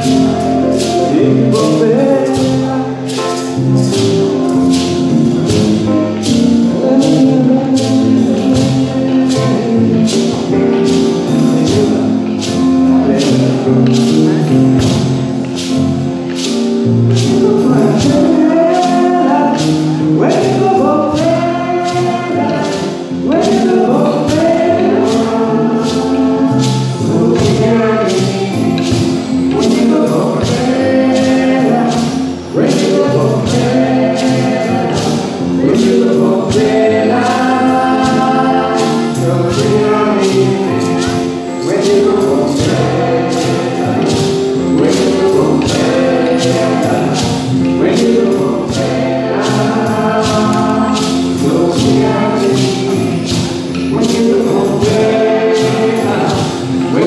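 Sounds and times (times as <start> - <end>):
drum kit: 0.0 - 57.0
gourd shaker: 0.0 - 57.0
hand drums: 0.0 - 57.0
voices singing: 0.0 - 57.0.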